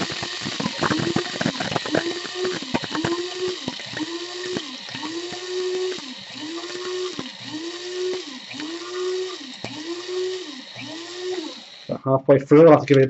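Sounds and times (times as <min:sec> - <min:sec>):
coffee grinder whine: 0:00.0 - 0:12.0.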